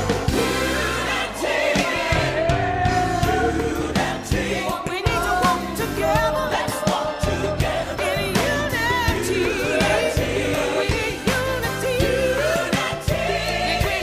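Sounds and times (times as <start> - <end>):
band with drums and bass: 0.0 - 14.0
voices singing gospel song: 0.0 - 14.0.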